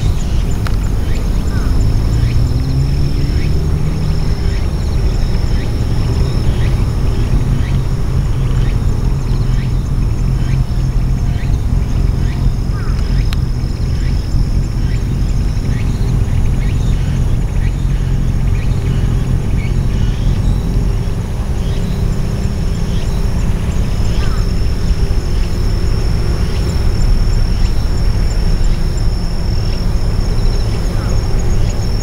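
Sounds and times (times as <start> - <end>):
faint high whine: 0.0 - 32.0
low outdoor rumble: 0.0 - 32.0.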